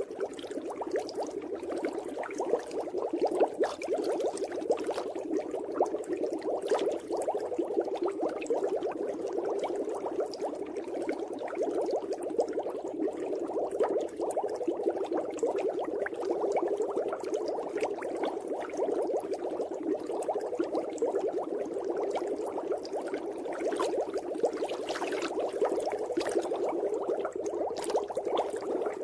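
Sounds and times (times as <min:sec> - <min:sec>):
water bubbling: 0:00.0 - 0:29.0.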